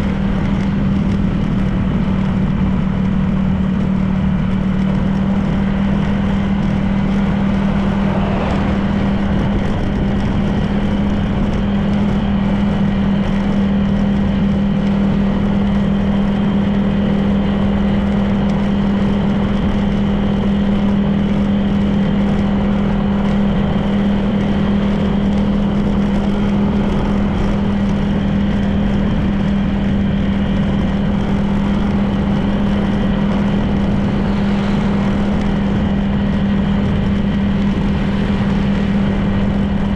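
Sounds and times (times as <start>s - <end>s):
scooter engine humming: 0.0s - 39.9s
wind and road noise: 0.0s - 39.9s.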